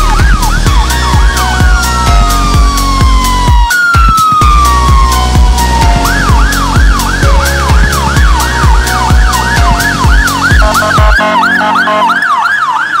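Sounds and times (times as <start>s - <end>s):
fire engine sirens wailing: 0.0s - 13.0s
stepped siren with low tone: 0.0s - 13.0s.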